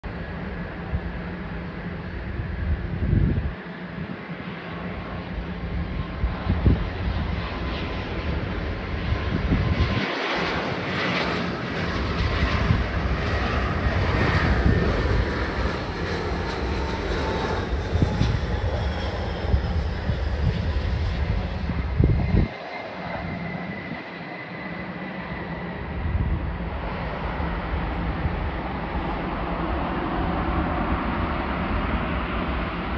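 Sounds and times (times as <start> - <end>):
jet engine roar with whine: 0.0 - 32.9.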